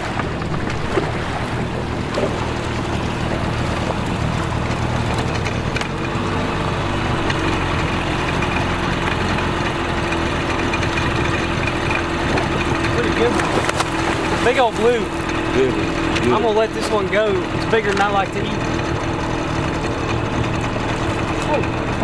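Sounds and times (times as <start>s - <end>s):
outboard motor humming: 0.0s - 22.0s.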